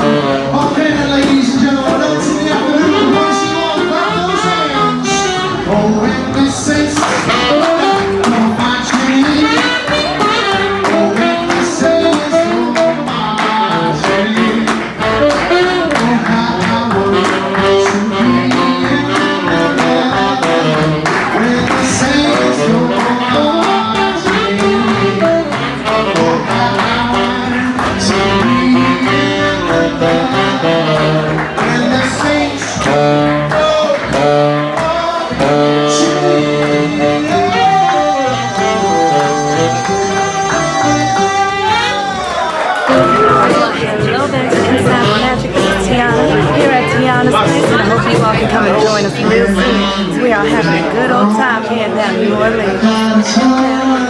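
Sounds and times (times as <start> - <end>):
jazz band playing: 0.0 - 54.0.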